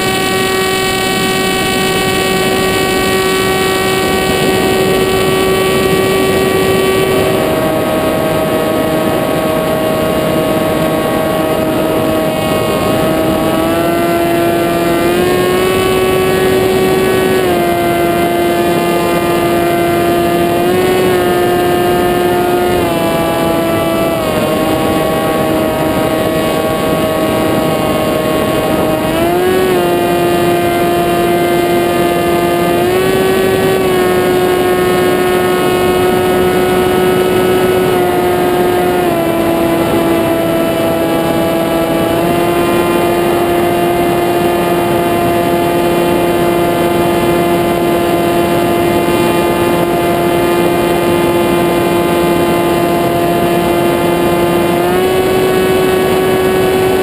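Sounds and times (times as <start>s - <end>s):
aircraft motor and propeller whining: 0.0s - 57.0s
wind rush: 0.0s - 57.0s.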